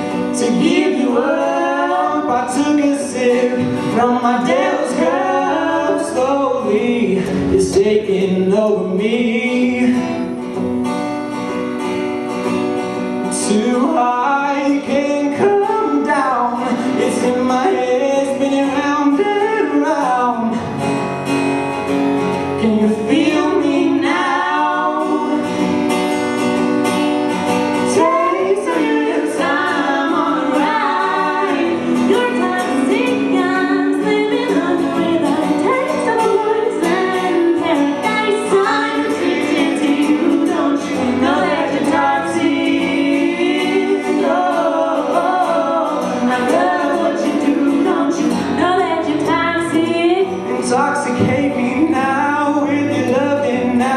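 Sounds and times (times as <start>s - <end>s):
people singing in harmony: 0.0s - 10.0s, 13.3s - 20.6s, 22.6s - 26.1s, 27.3s - 53.9s
acoustic guitar: 0.0s - 53.9s.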